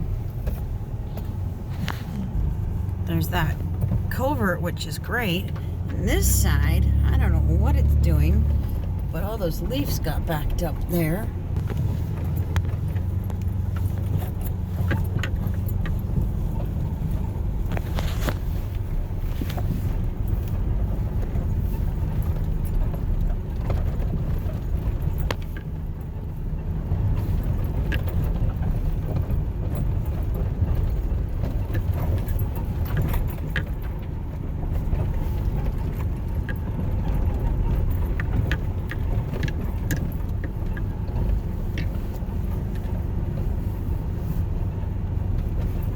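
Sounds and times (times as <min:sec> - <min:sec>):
engine and road rumble: 0:00.0 - 0:45.9
light jingling rattles: 0:05.0 - 0:17.4, 0:19.1 - 0:43.6.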